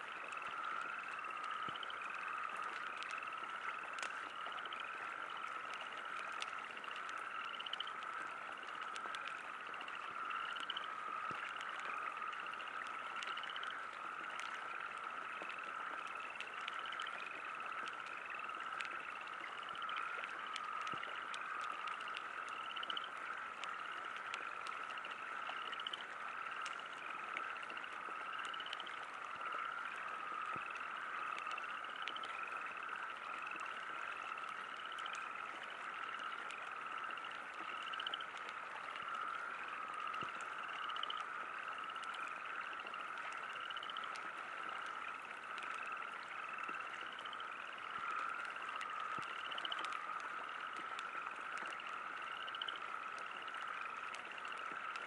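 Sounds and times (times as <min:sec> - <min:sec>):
frogs croaking: 0:00.0 - 0:55.0
light rain falling: 0:00.0 - 0:55.0.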